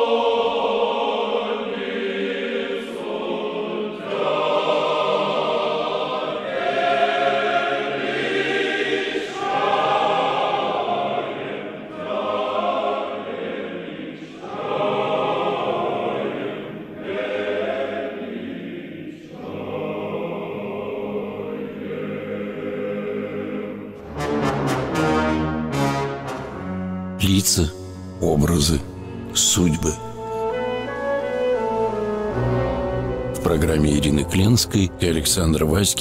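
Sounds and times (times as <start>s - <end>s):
choir singing chant: 0.0s - 26.7s, 28.2s - 36.0s.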